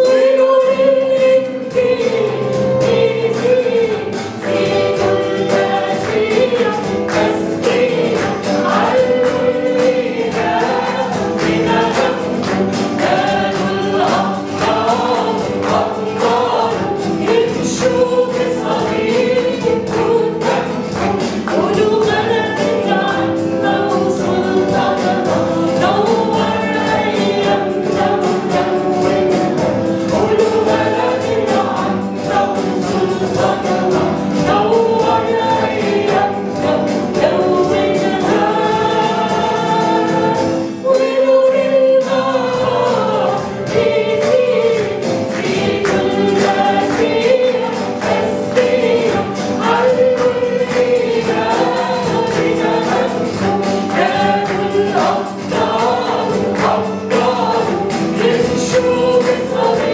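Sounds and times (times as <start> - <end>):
congregation singing a hymn: 0.0 - 59.9
guitar: 0.0 - 59.9
keyboard: 0.0 - 59.9.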